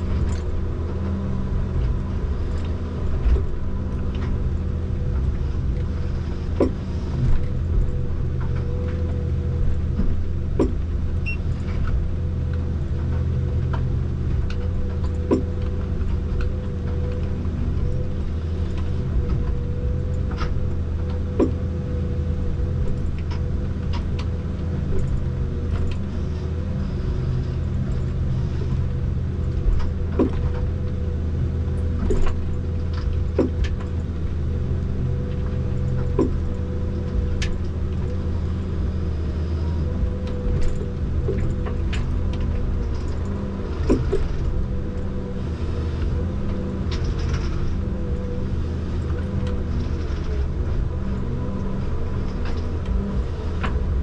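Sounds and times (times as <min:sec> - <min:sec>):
low diesel engine drone: 0:00.0 - 0:54.0
steady machine whine: 0:00.0 - 0:54.0.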